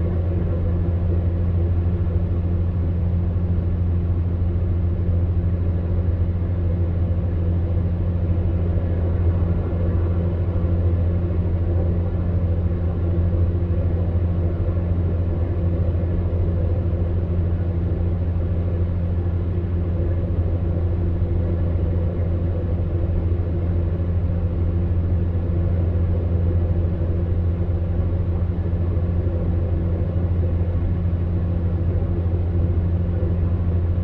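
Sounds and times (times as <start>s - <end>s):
electric fan heater humming: 0.0s - 34.0s.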